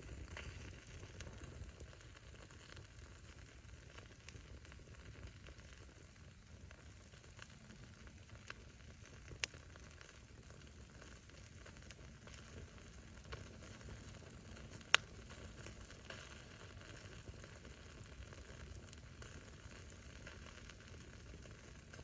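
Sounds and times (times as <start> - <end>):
campfire burning: 0.0 - 22.0
firewood crackling and popping: 0.0 - 22.0.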